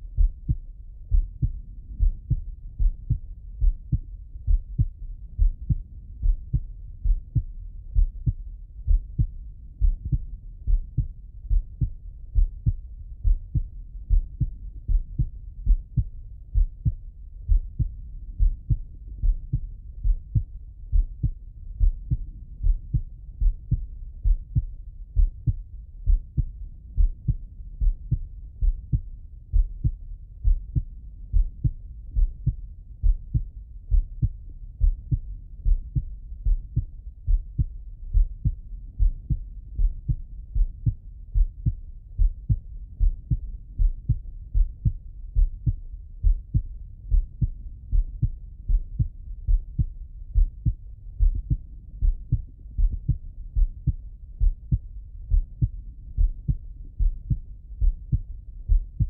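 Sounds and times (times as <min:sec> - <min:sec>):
heartbeat through stethoscope: 0:00.0 - 0:59.0.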